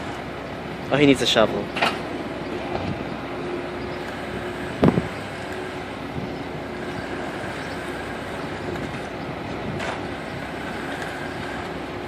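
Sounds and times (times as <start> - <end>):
concrete truck running: 0.0 - 12.0.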